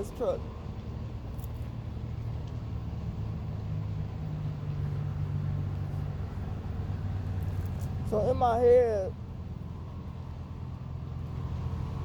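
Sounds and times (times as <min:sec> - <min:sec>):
strong engine hum: 0:00.0 - 0:12.0
truck engine rumbling: 0:00.0 - 0:12.0.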